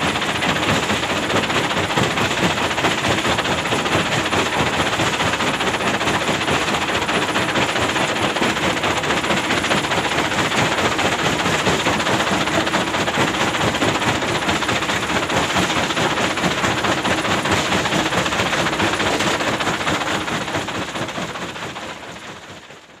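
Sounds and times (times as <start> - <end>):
excavator diesel engine rattling: 0.0 - 23.0.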